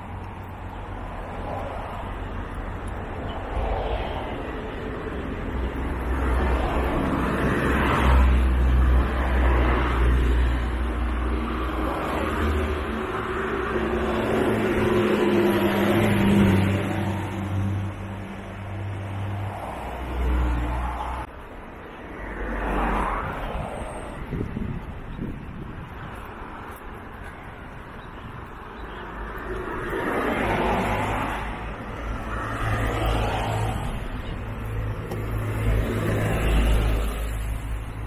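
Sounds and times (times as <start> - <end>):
cars passing: 0.0 - 38.0.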